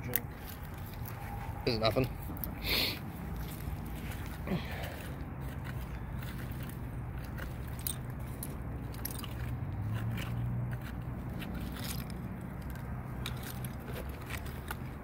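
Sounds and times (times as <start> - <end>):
tools scraping through soil: 2.3 - 15.0.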